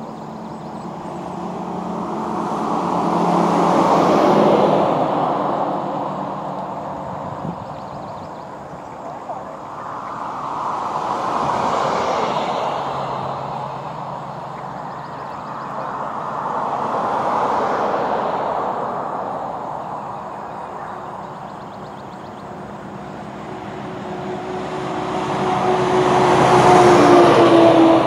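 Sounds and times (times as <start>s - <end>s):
distant vehicle rumble: 0.0s - 28.0s.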